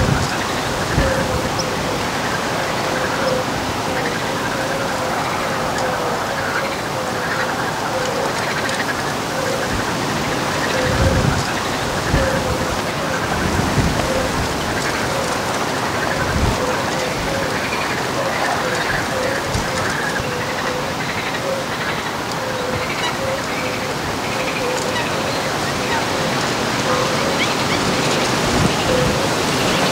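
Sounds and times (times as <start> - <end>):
ducks quacking: 0.0 - 29.9.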